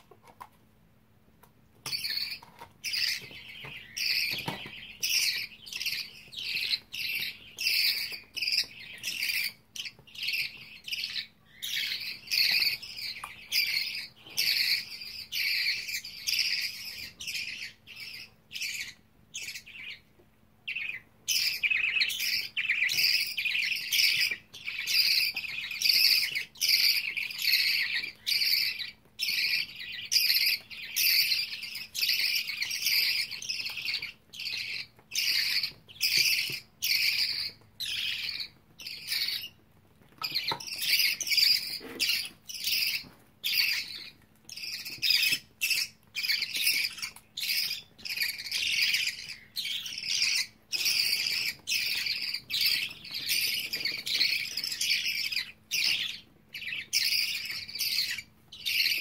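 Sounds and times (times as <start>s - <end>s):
chicks raspy chirps: 1.7s - 59.0s.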